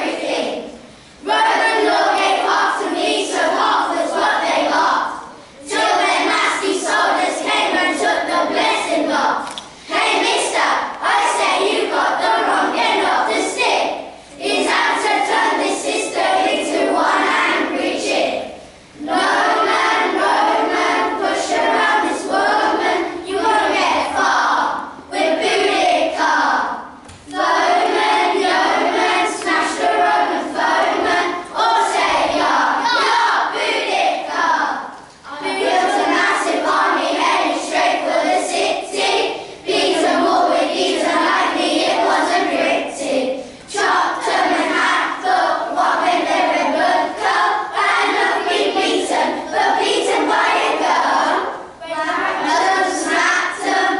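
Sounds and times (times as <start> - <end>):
children singing in unison: 0.0 - 53.9.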